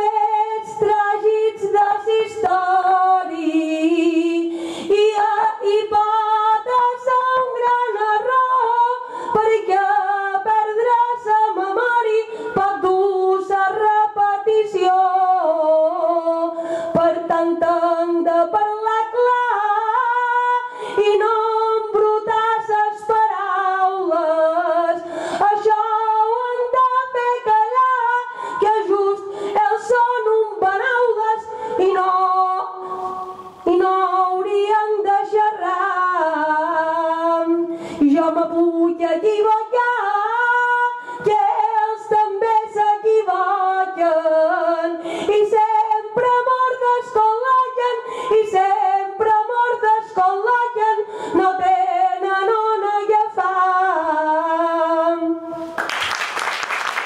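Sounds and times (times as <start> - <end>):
woman singing unaccompanied: 0.0 - 55.6.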